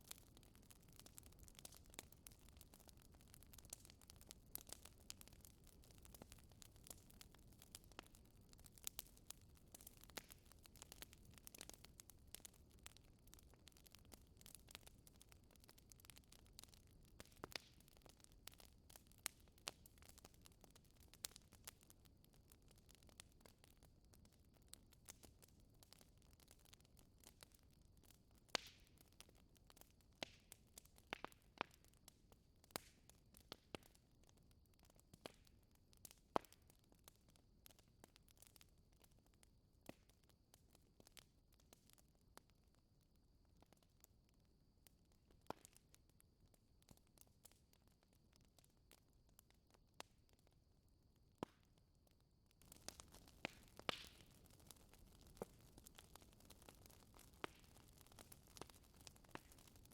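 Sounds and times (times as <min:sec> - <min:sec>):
wood fire crackling: 0:00.0 - 0:42.2, 0:43.4 - 0:46.0, 0:46.8 - 0:50.5, 0:51.4 - 0:59.9.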